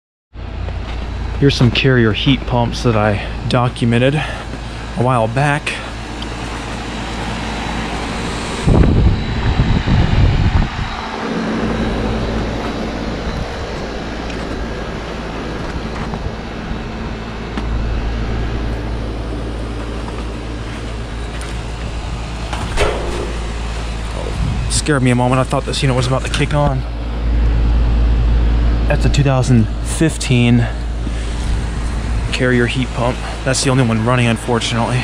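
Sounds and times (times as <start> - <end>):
heat pump fan and compressor hum: 0.4 - 35.0
loud low rumbling: 0.4 - 35.0.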